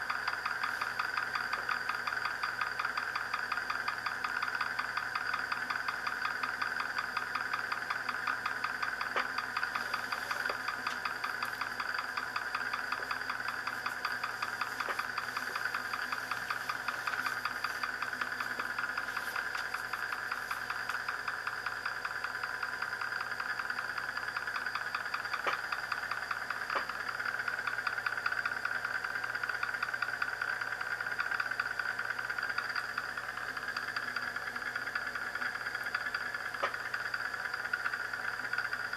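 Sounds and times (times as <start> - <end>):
spinning disc buzzing on glass: 0.0 - 38.9.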